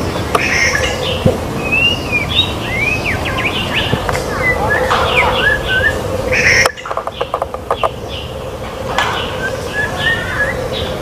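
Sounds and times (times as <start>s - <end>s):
steady background hum: 0.0s - 11.0s
bird singing whistled notes: 0.4s - 8.4s, 9.1s - 11.0s.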